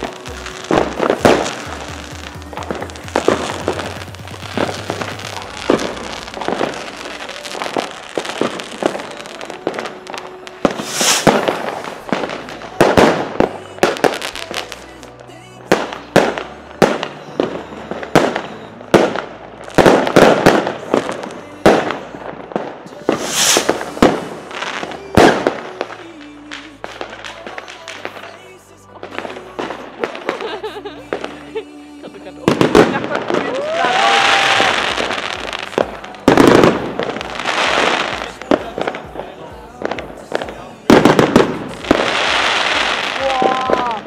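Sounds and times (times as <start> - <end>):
fireworks hissing bursts: 0.0 - 28.4, 29.0 - 44.0
background music: 0.0 - 44.0
fireworks bangs: 0.0 - 44.0.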